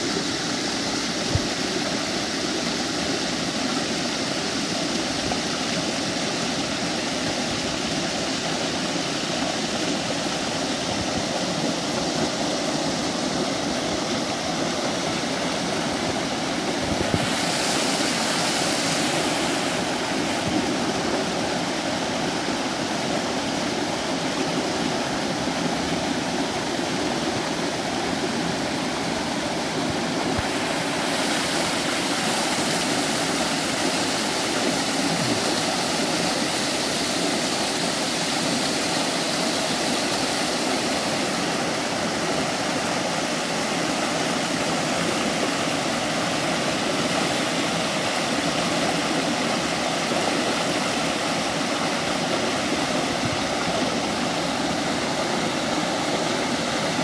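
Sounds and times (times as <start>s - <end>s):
water splashing over boulders: 0.0s - 57.0s.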